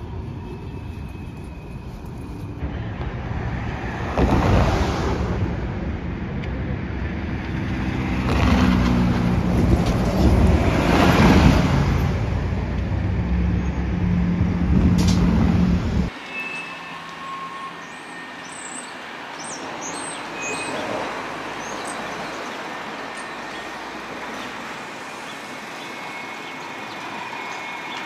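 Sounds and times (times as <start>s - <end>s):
cars passing close by: 2.6s - 28.0s.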